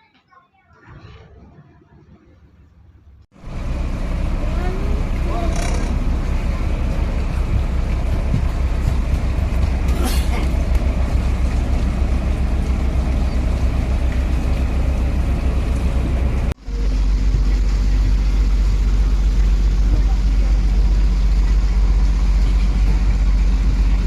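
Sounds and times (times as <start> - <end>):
motor running low rumble: 1.7 - 24.0.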